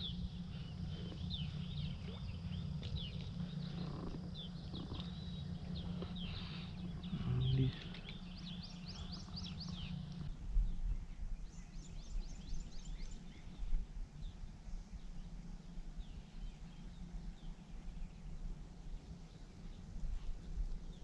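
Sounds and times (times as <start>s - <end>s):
low steady rumble: 0.0s - 21.0s
songbird singing: 0.0s - 21.0s.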